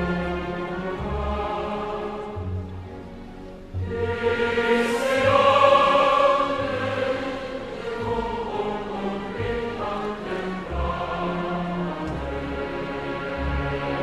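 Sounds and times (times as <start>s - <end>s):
choral music with held chords: 0.0s - 14.0s.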